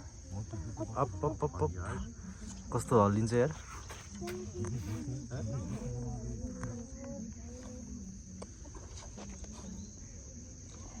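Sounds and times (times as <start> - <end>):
insects droning: 0.0 - 11.0
people's voices: 0.0 - 11.0.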